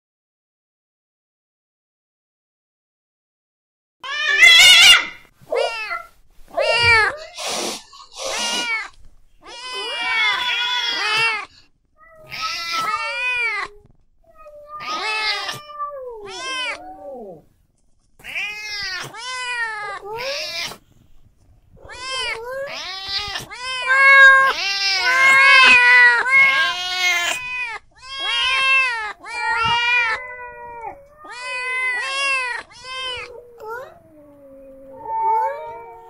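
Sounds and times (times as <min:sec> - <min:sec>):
cats meowing: 0:04.0 - 0:17.5, 0:18.2 - 0:20.8, 0:21.7 - 0:36.0.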